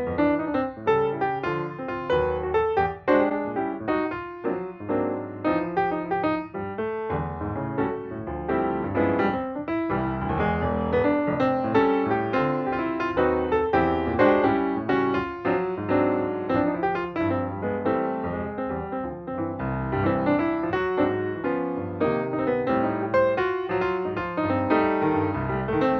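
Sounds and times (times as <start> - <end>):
piano music: 0.0 - 25.9.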